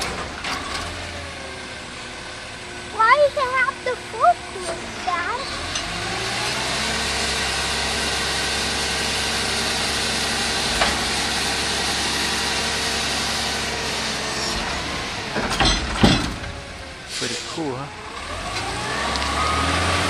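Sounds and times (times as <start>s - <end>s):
garbage truck engine running: 0.0s - 20.0s.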